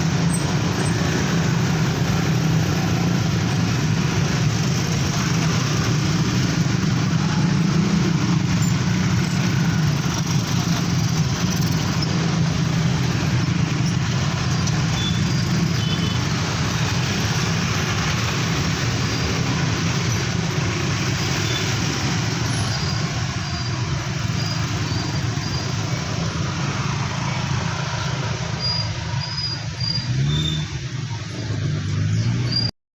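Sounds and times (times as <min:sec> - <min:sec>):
traffic noise: 0:00.0 - 0:32.8.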